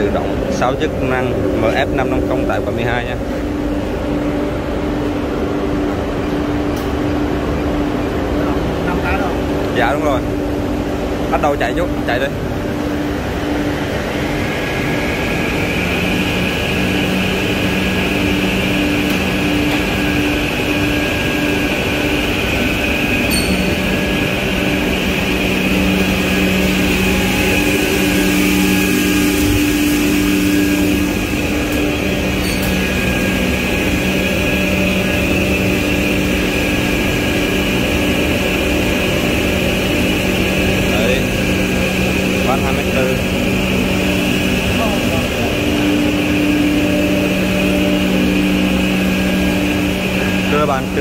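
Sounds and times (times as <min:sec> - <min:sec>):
high machine whine: 0:00.0 - 0:51.0
machine motors humming: 0:00.0 - 0:51.0.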